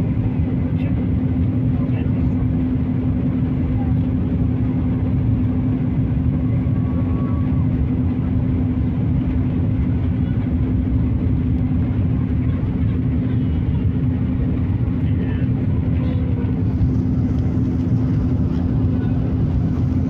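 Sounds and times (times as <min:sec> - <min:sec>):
jet engine drone: 0:00.0 - 0:20.0
steady low hum: 0:00.0 - 0:20.0.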